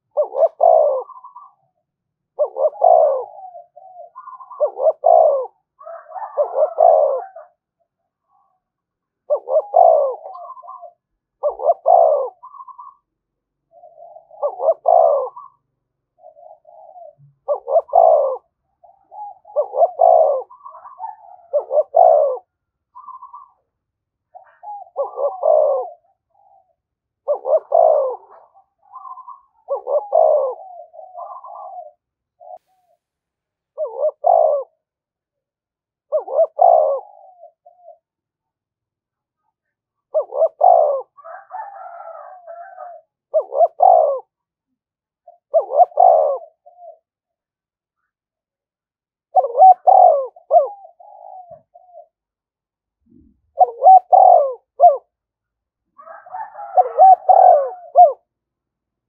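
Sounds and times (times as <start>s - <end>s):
dove cooing: 0.0s - 23.7s, 24.3s - 33.0s, 33.7s - 34.9s, 36.0s - 38.1s, 39.4s - 44.4s, 45.2s - 47.2s, 49.3s - 52.2s, 53.0s - 55.2s, 56.0s - 58.3s.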